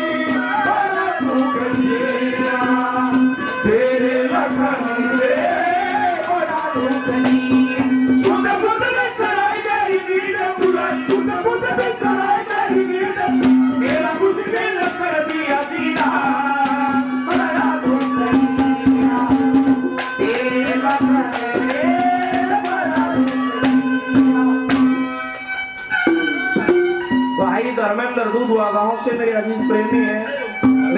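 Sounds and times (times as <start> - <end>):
hand drum strokes: 0.0 - 27.6
rattling percussion: 0.0 - 30.9
wavering melody: 0.0 - 30.9.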